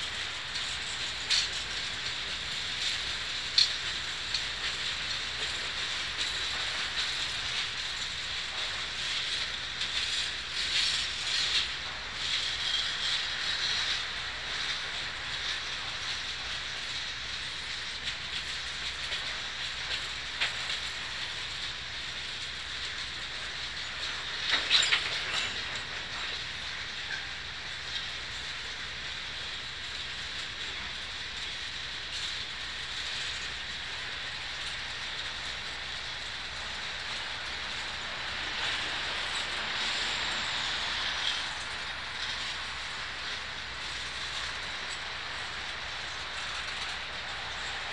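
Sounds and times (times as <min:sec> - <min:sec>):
freight train wheels hissing on rails: 0:00.0 - 0:47.9.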